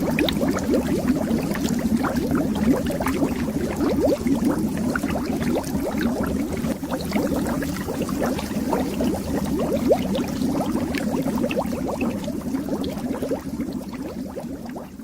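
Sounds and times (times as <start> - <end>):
bubbles popping underwater: 0.0 - 15.0.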